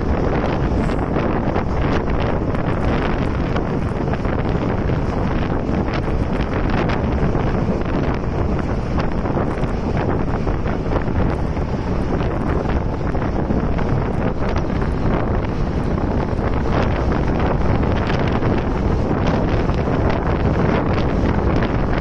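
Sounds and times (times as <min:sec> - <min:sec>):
train carriage rumbling on rails: 0:00.0 - 0:22.0
wind buffeting microphone: 0:00.0 - 0:22.0.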